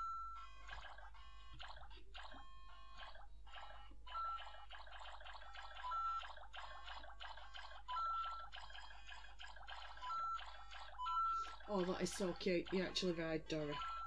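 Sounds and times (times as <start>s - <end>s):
tinny electronic game music: 0.0s - 14.0s.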